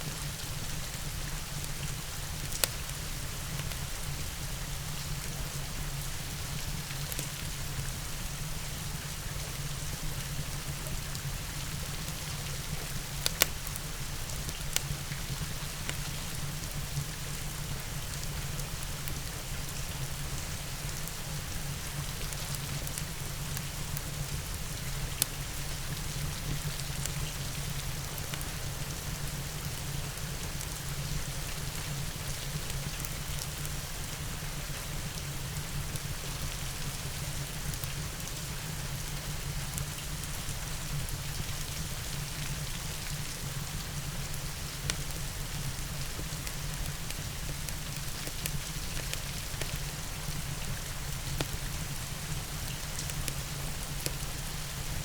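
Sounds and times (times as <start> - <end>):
steady rain hiss: 0.0 - 55.0
fire crackling: 0.2 - 55.0.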